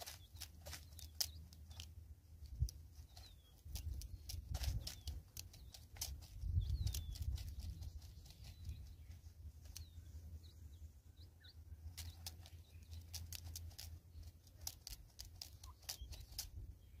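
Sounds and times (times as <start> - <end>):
bird bill pecking plastic feeder: 0.0 - 10.6, 11.2 - 17.0
low steady rumble: 0.0 - 15.7.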